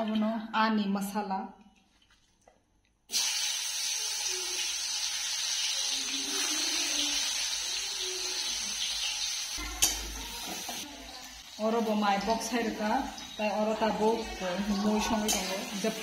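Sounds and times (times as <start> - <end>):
food sizzling in oil: 3.1 - 16.0.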